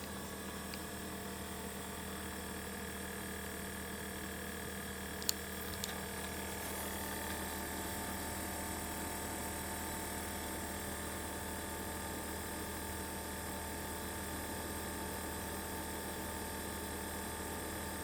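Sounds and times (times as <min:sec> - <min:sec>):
refrigerator compressor humming: 0:00.0 - 0:18.0.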